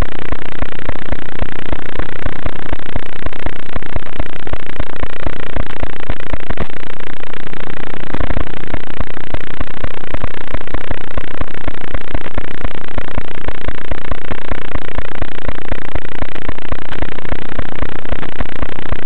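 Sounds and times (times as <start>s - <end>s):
clipped crackling noise: 0.0s - 19.0s.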